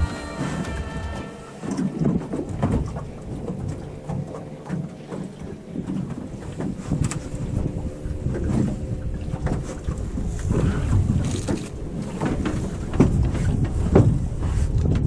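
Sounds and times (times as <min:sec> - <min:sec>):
small waves slapping hull: 0:00.0 - 0:15.0
wind buffeting microphone: 0:00.0 - 0:15.0.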